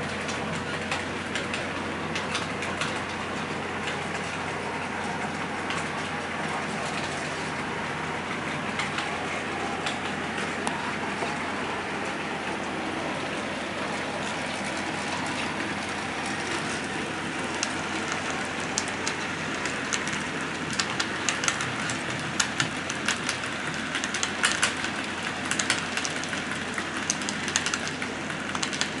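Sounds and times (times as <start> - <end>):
wheels clicking on rails: 0.0 - 29.0.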